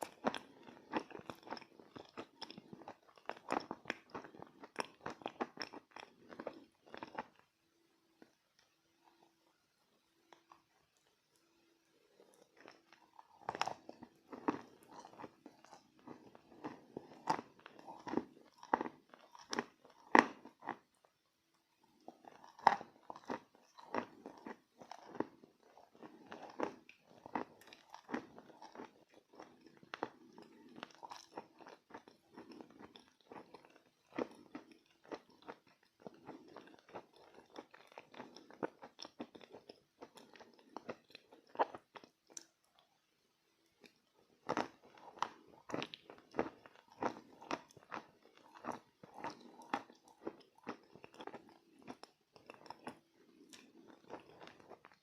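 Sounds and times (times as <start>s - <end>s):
chalk crunching while chewed: 0.0s - 7.5s, 12.1s - 20.9s, 21.9s - 42.8s, 43.8s - 55.0s.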